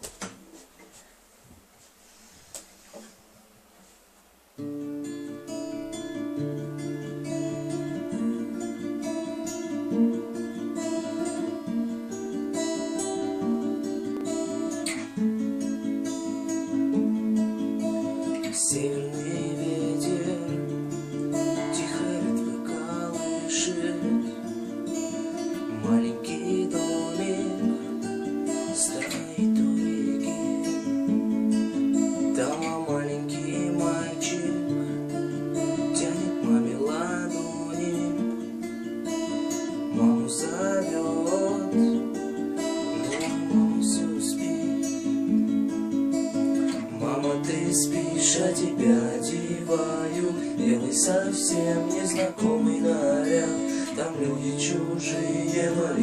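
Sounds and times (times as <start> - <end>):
strummed acoustic guitar: 4.6 - 56.0.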